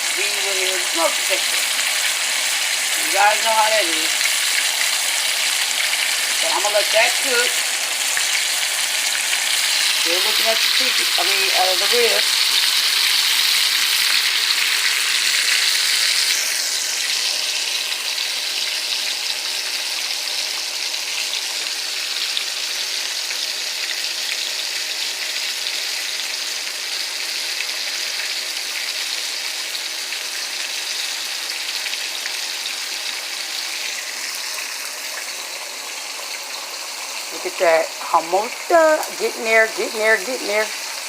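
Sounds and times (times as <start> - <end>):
meat sizzling in hot oil: 0.0 - 41.0.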